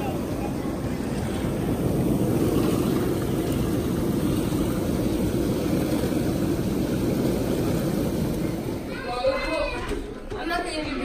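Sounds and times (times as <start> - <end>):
pump rumble: 0.0 - 9.0
hot tub jets churning water: 0.0 - 9.4.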